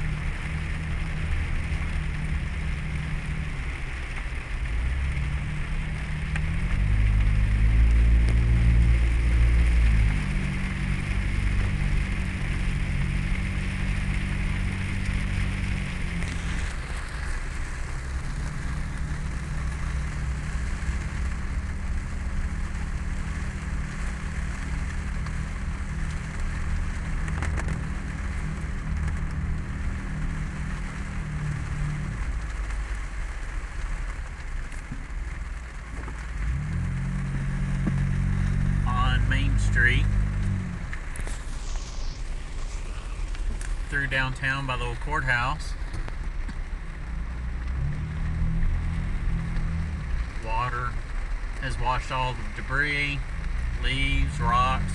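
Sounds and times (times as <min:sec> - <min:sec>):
car engine hum: 0:00.0 - 0:54.9
water spray hissing from tyres: 0:00.0 - 0:54.9.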